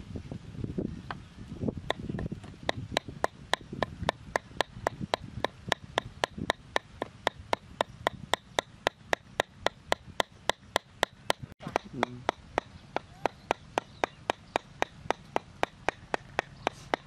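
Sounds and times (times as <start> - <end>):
knife chopping meat on wood: 1.9 - 17.0.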